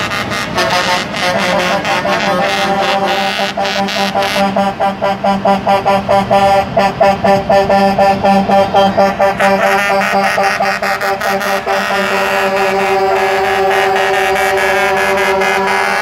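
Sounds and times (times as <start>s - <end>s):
truck air horn blasts: 0.0s - 16.0s.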